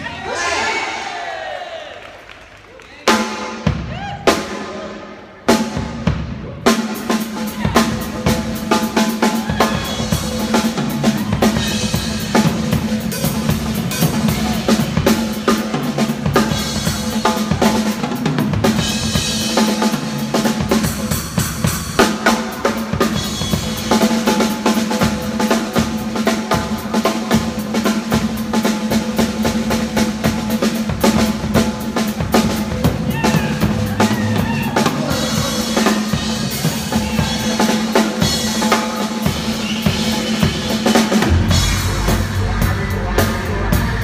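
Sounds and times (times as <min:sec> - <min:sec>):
fast rock drum beat: 0:03.1 - 0:44.0.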